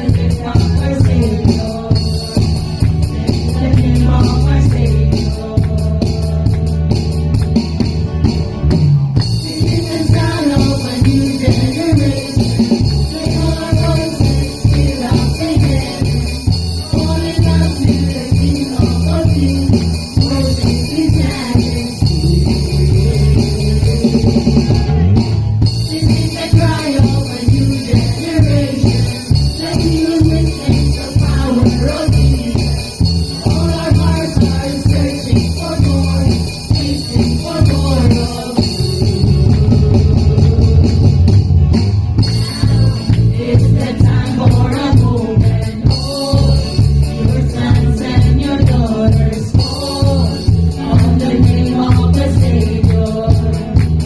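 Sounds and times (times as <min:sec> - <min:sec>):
people singing: 0:00.0 - 0:07.5, 0:09.2 - 0:41.2, 0:42.2 - 0:54.0
church band playing: 0:00.0 - 0:54.0
steady bass beat: 0:00.0 - 0:54.0.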